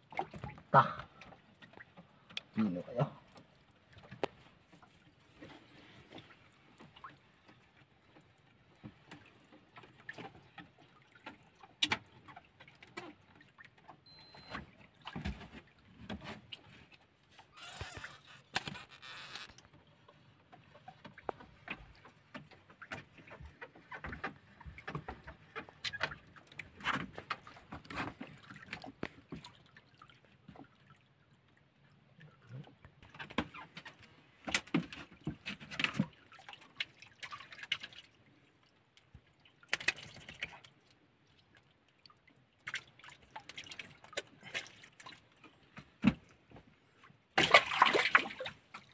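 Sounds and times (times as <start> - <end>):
water lapping against a boat: 0.0 - 48.9.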